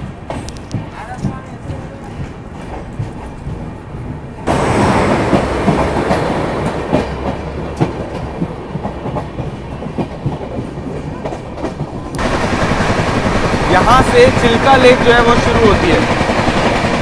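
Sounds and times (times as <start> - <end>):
passenger train rushing: 0.0 - 17.0.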